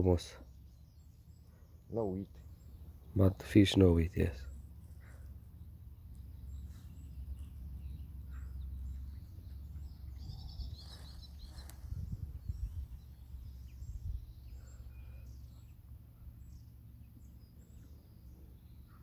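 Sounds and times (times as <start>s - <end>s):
low outdoor rumble: 0.0s - 19.0s
songbirds chirping and twittering: 0.0s - 19.0s.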